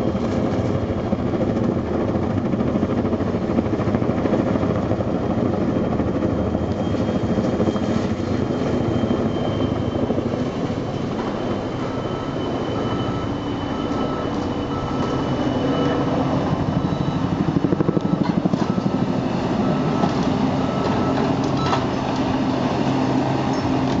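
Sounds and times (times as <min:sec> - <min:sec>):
helicopter engine noise: 0:00.0 - 0:24.0
helicopter rotors chopping: 0:00.0 - 0:24.0.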